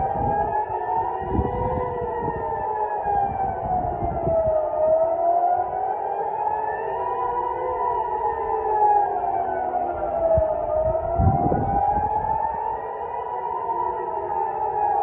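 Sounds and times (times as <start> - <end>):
air-raid sirens wailing: 0.0 - 15.0.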